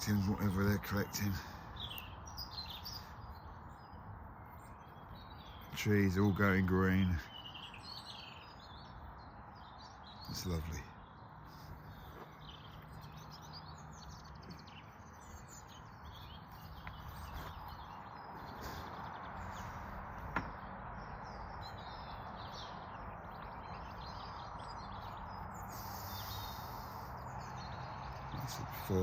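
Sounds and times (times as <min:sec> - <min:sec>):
songbirds singing: 0:00.0 - 0:29.0.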